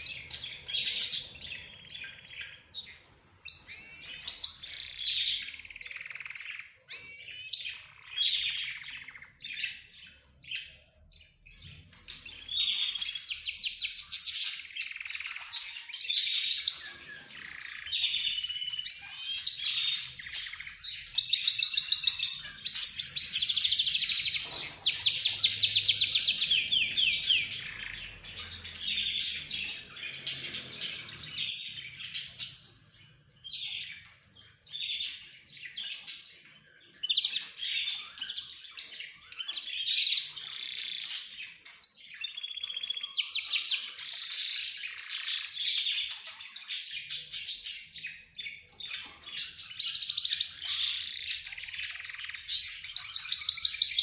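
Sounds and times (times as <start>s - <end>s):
small birds chirping and chattering: 0.0s - 54.0s.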